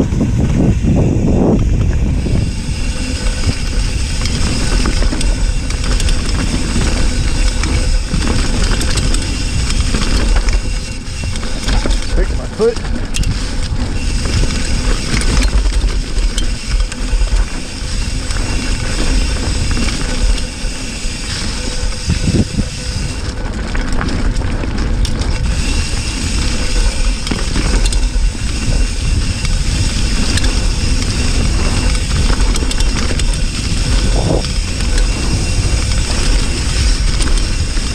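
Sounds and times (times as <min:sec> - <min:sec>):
bike clicks and knocks: 0:00.0 - 0:37.9.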